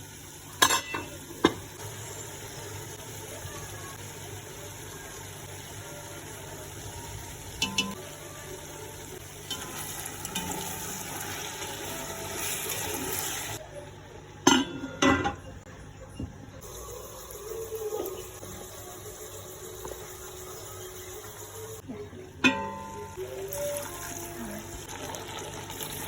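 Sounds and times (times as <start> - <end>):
pot sizzling: 0.0 - 13.7, 16.6 - 26.0.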